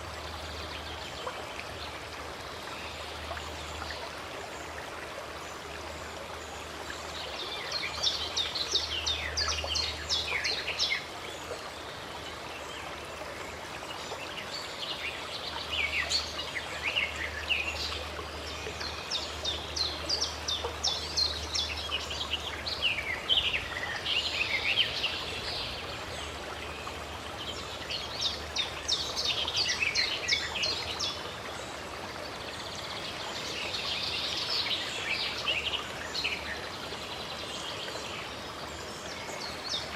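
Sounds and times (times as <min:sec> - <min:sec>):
running water: 0:00.0 - 0:39.9
songbirds chirping: 0:00.0 - 0:39.9.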